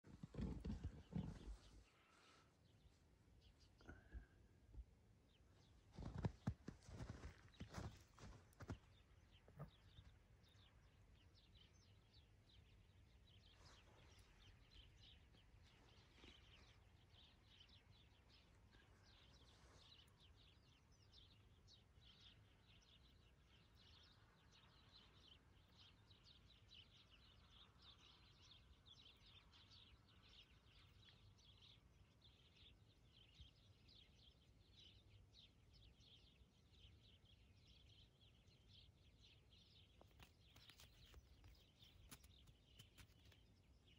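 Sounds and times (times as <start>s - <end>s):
faint high bird chirps: 5.6s - 43.9s.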